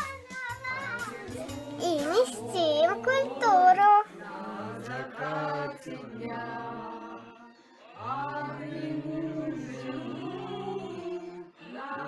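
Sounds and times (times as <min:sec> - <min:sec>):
chant-like singing: 0:00.8 - 0:12.0.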